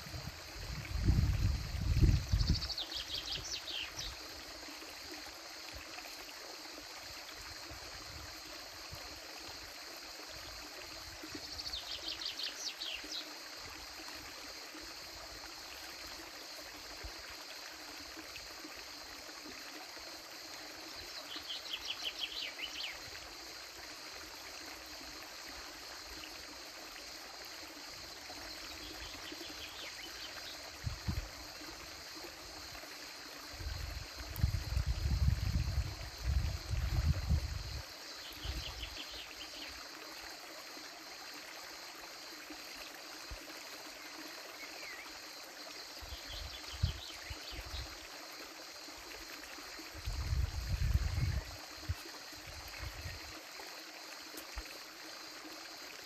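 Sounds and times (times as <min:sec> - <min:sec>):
creek trickling over rocks: 0:00.0 - 0:56.0.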